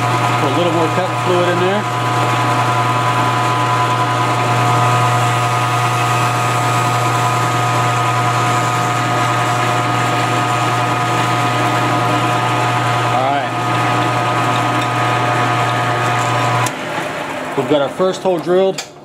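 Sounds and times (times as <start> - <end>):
drill bit whining: 0.0 - 18.7
milling machine motor hum: 0.0 - 19.0.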